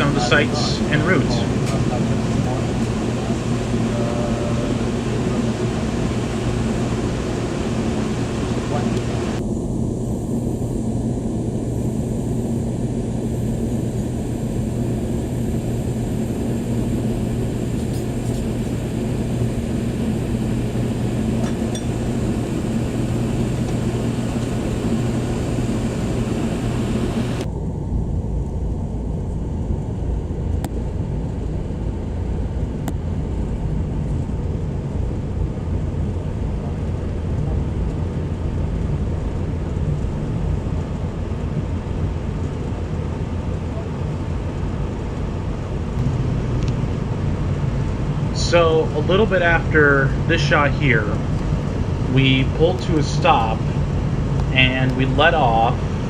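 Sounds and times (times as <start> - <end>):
train rumbling along the line: 0.0 - 56.0.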